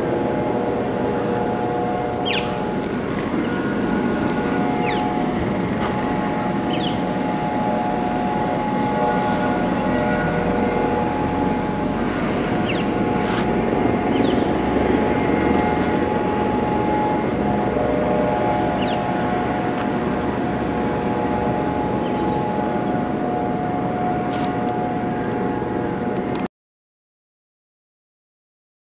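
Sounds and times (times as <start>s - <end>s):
vehicle engine running: 0.0s - 26.4s
held steady tones: 0.0s - 26.5s.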